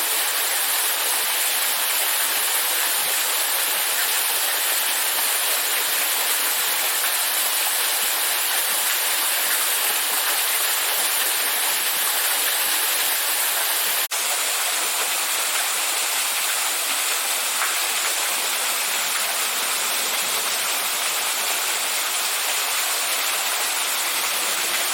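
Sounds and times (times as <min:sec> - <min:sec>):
falling water rushing: 0:00.0 - 0:24.9.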